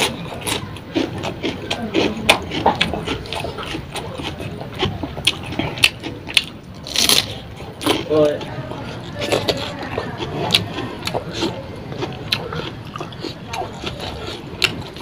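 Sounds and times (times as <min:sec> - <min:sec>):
wet chewing and lip-smacking: 0:00.0 - 0:15.0.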